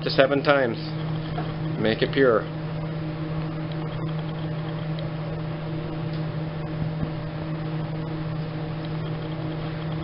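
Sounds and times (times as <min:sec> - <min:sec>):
machinery humming: 0:00.0 - 0:10.0.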